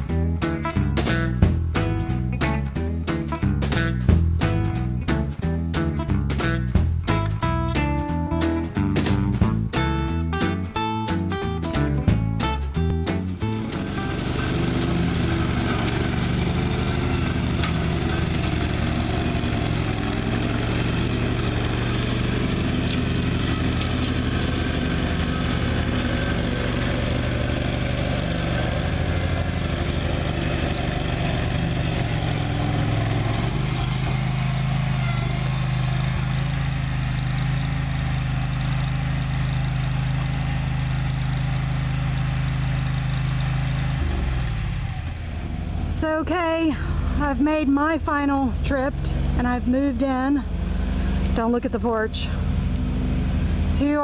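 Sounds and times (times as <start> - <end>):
riding mower engine cutting grass: 0.0 - 54.0.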